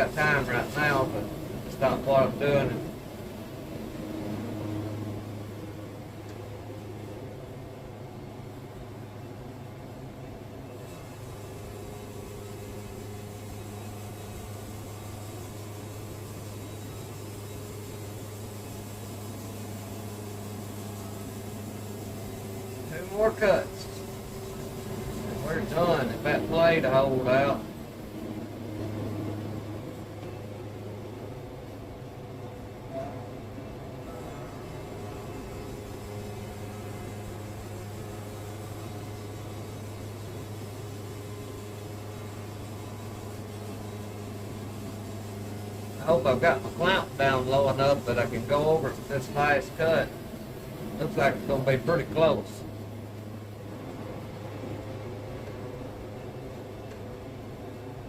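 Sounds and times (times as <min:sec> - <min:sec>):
band sawmill humming: 0:00.0 - 0:58.0.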